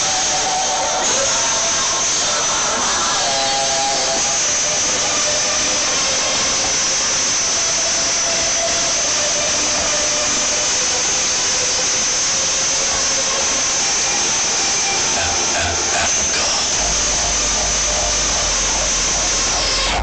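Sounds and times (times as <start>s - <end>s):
crowd noise: 0.0s - 20.0s
loud distorted festival music: 0.0s - 20.0s.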